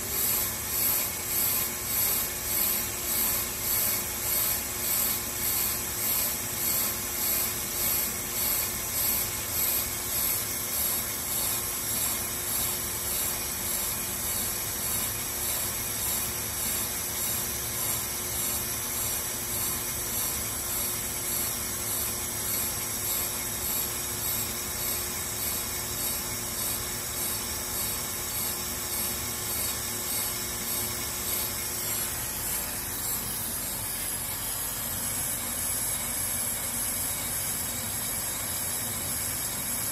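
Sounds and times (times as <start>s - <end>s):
cutting bits scraping rotor: 0.0s - 34.0s
lathe humming: 0.0s - 39.9s.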